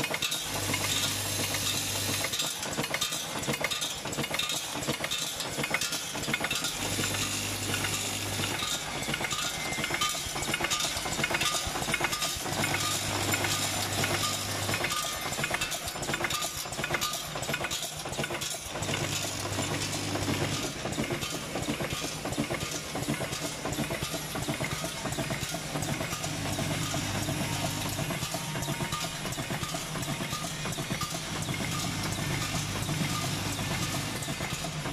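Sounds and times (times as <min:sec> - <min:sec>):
screws clinking and rattling in machine: 0:00.0 - 0:34.9.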